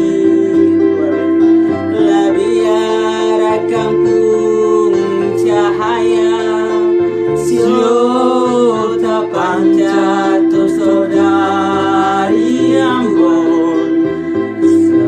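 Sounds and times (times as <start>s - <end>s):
person singing long notes: 0.0s - 15.0s
sustained accompaniment tone: 0.0s - 15.0s.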